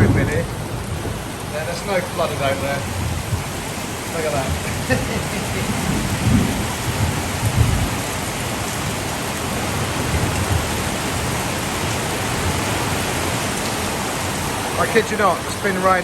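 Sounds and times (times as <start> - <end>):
heavy rain pouring: 0.0 - 16.0
low rumbles: 0.0 - 16.0.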